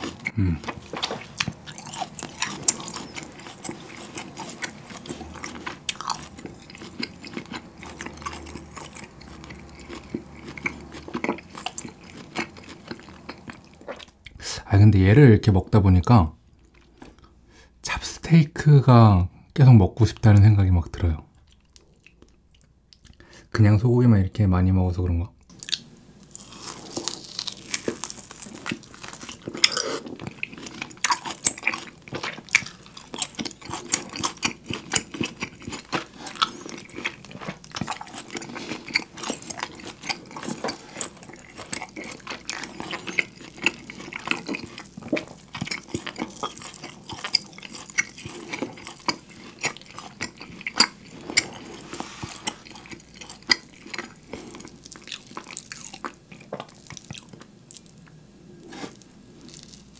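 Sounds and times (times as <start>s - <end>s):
man chewing steak: 0.0s - 14.4s, 25.5s - 59.9s.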